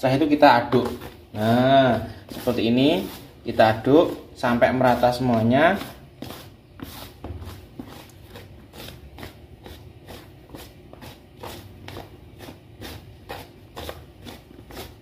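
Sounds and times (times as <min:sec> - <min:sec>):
hands rustling mushrooms in flour: 0:00.0 - 0:15.0.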